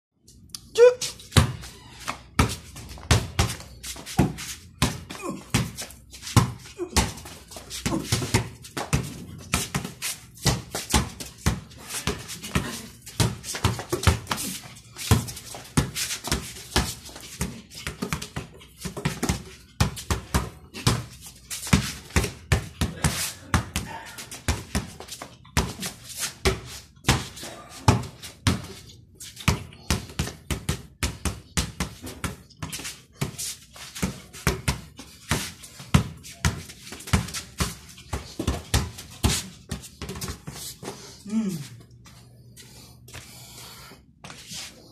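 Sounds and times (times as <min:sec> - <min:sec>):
basketball bouncing on tiled floor: 0:01.0 - 0:41.0.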